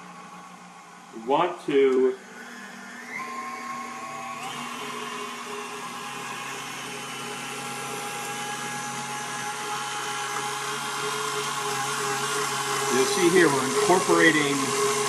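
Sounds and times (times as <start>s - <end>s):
stand mixer whisk whining: 1.8s - 15.0s.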